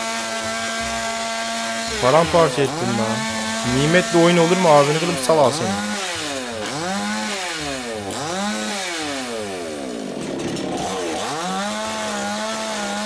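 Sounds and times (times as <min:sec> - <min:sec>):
chainsaw cutting cardboard: 0:00.0 - 0:13.0.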